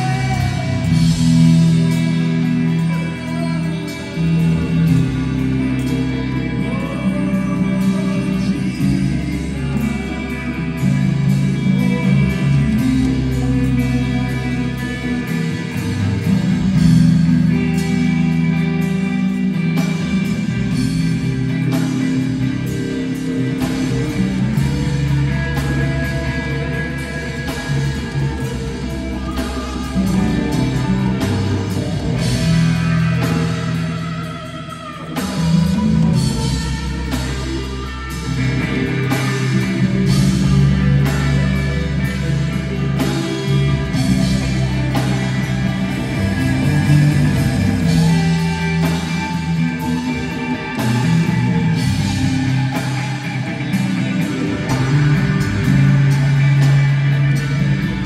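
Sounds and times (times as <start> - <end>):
person singing: 0.0 - 58.0
rock band playing: 0.0 - 58.0.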